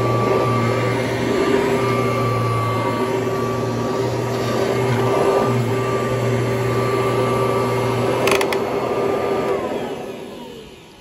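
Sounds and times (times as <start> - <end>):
motor winding down whine: 0.0 - 11.0
vacuum cleaner running: 0.0 - 11.0.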